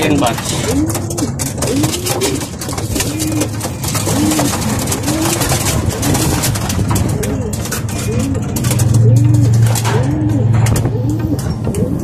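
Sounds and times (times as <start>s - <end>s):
clicks and rustling: 0.0s - 12.0s
pigeons cooing: 0.0s - 12.0s.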